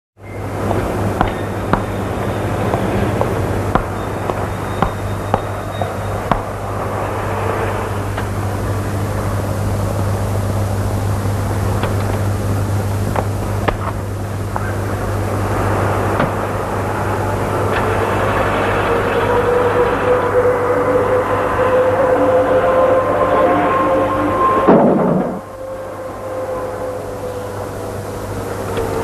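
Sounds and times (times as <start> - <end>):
car engine and road noise: 0.2 - 29.0
low hum: 0.2 - 29.0.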